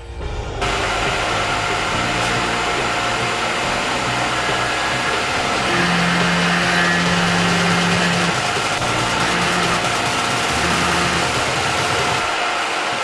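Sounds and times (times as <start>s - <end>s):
low machine hum: 0.0s - 12.4s
milling machine hiss and whine: 0.5s - 13.0s.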